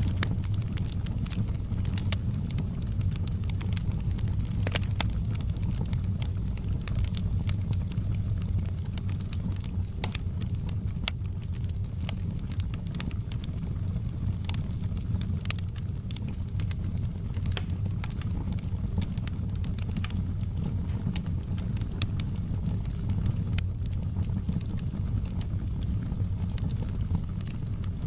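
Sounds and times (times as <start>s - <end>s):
burning wood crackling and popping: 0.0s - 28.0s
low rumble of flames: 0.0s - 28.0s.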